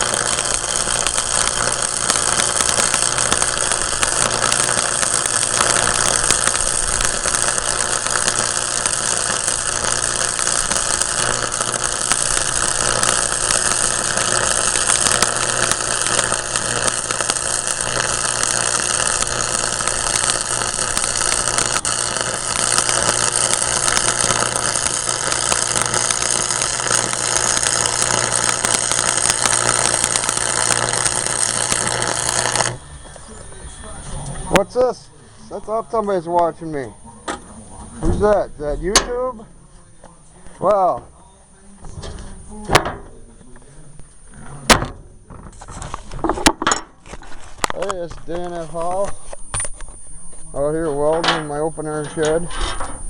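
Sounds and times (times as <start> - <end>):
low electrical buzz: 0.0 - 53.0
welding arc crackling hiss: 0.0 - 53.0.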